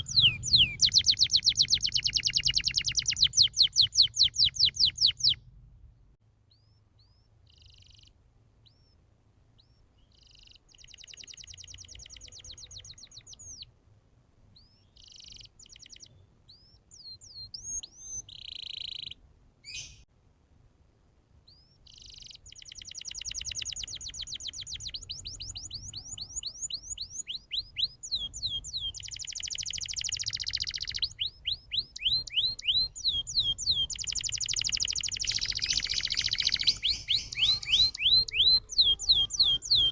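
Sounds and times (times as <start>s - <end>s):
canary singing: 0.0s - 5.4s, 6.5s - 9.0s, 9.6s - 13.7s, 14.5s - 20.0s, 21.5s - 39.9s.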